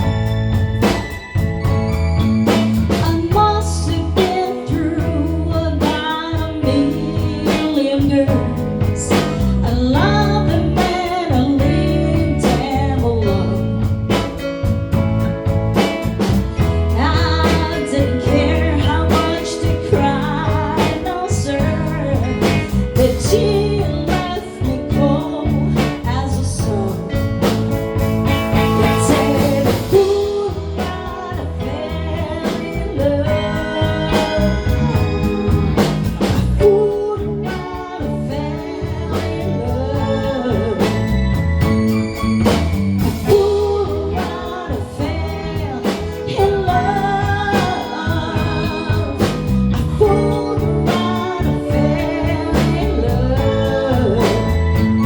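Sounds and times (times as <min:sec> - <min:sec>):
live band playing: 0:00.0 - 0:55.0
lead singer singing: 0:02.8 - 0:14.5, 0:15.8 - 0:55.0.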